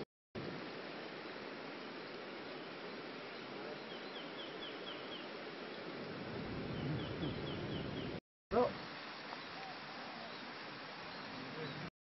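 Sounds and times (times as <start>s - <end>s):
outdoor background hiss: 0.4s - 11.9s.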